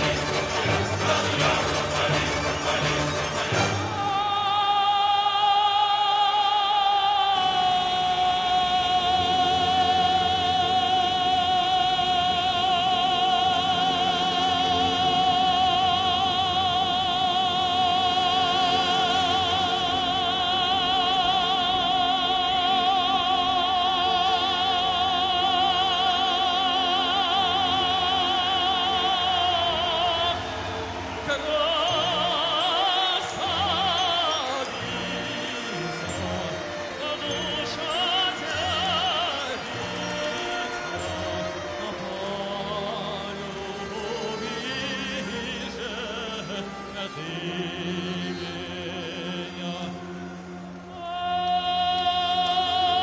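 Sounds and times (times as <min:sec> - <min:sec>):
operatic singing with accompaniment: 0:00.0 - 0:53.0.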